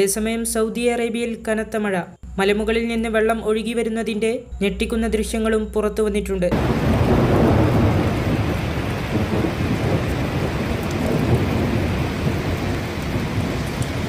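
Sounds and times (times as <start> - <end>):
heavy low rumble: 2.3 - 14.0.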